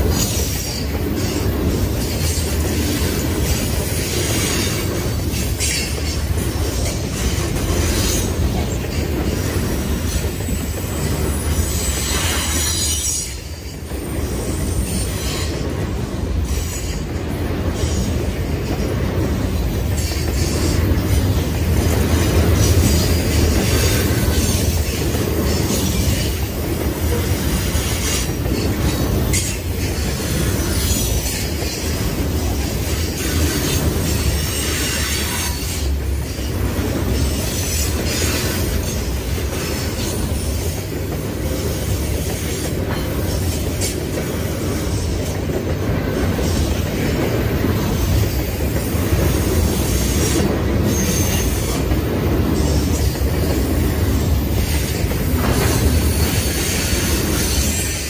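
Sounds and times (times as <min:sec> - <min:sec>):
freight train rolling past: 0:00.0 - 0:58.0
wheels clicking on rail: 0:00.0 - 0:58.0.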